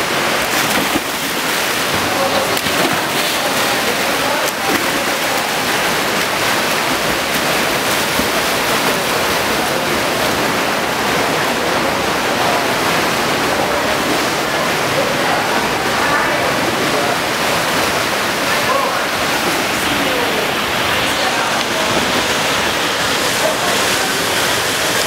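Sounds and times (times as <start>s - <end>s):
swimmers splashing in pool: 0.0s - 25.0s.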